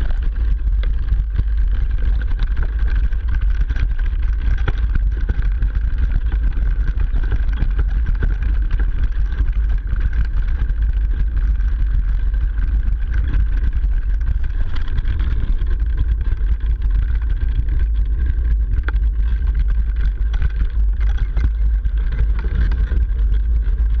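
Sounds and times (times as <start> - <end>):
bike tyres crunching over snow: 0.0 - 24.0
suspension clicks and knocks: 0.8 - 24.0.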